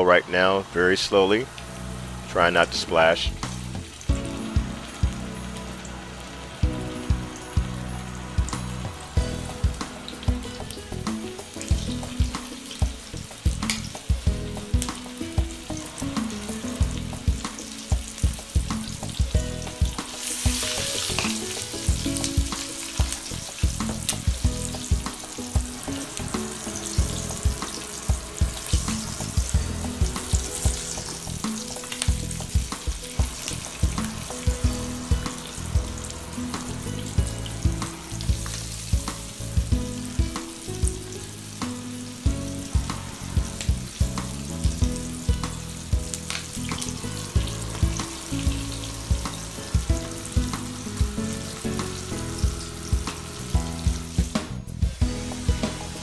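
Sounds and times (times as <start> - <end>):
deep-frying sizzle with pops: 1.3 - 56.0.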